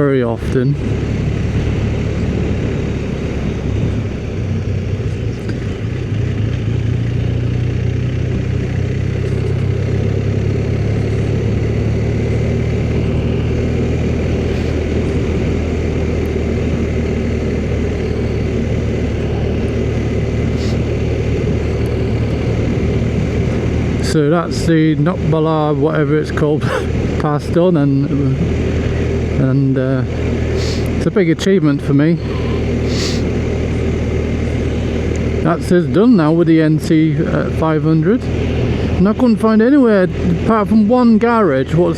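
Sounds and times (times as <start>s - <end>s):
motorcycle engine drone: 0.0s - 41.9s
wind and road noise: 0.0s - 41.9s.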